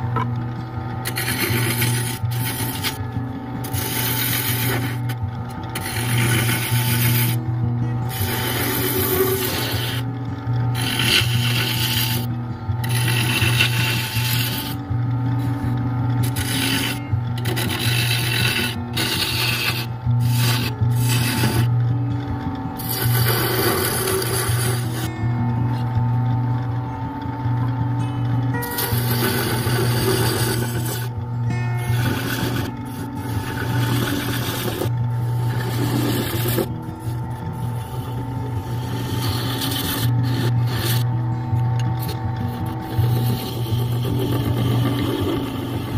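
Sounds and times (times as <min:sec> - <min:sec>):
lathe humming: 0:00.0 - 0:45.9
gouge scraping wood: 0:01.0 - 0:07.4, 0:08.1 - 0:10.1, 0:10.7 - 0:14.8, 0:15.4 - 0:21.8, 0:22.8 - 0:25.1, 0:28.7 - 0:31.2, 0:31.8 - 0:41.1, 0:42.0 - 0:45.9.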